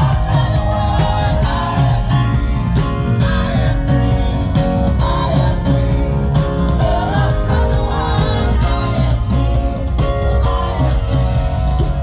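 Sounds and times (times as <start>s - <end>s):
rock song with guitar and singing: 0.0s - 12.0s.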